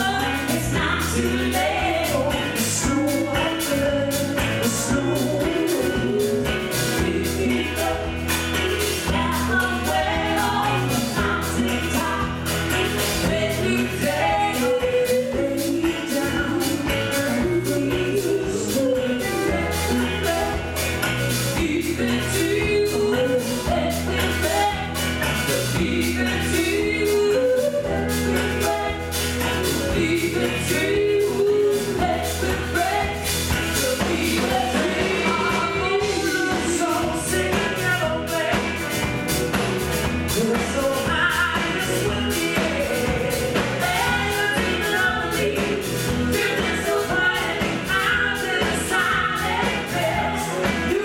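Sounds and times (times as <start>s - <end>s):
banjo: 0.0s - 51.0s
electric guitar: 0.0s - 51.0s
man and woman singing: 0.0s - 51.0s.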